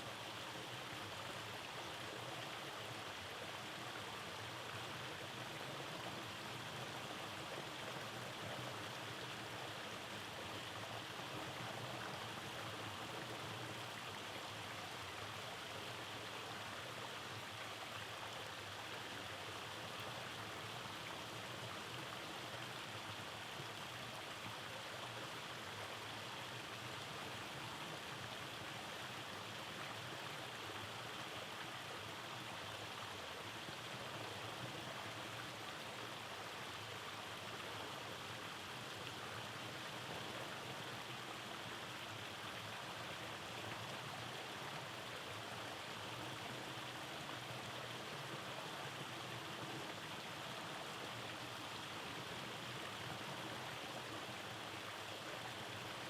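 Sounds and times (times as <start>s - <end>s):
stream over small cascades: 0.0s - 56.0s.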